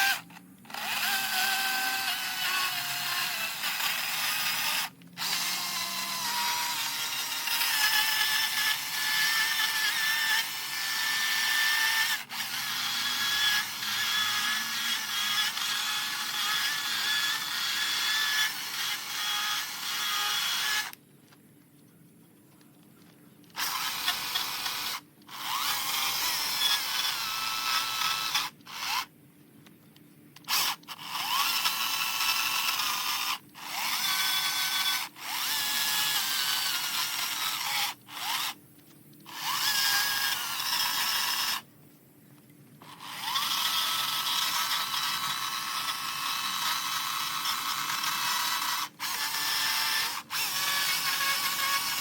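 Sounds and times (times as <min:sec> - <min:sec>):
electric carving tool whirring: 0:00.0 - 0:21.0, 0:23.5 - 0:29.1, 0:30.4 - 0:38.6, 0:39.3 - 0:41.7, 0:42.8 - 0:52.0.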